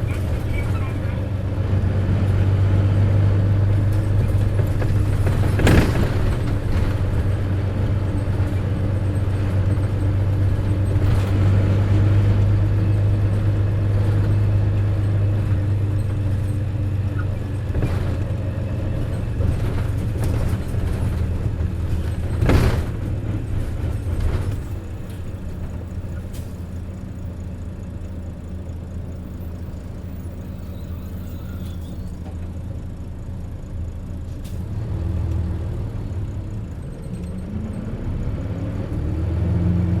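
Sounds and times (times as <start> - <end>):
bus engine low drone: 0.0 - 40.0.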